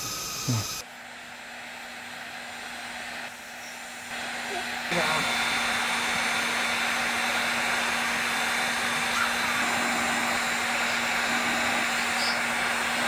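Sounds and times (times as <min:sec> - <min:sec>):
electric blower running: 0:00.0 - 0:13.0.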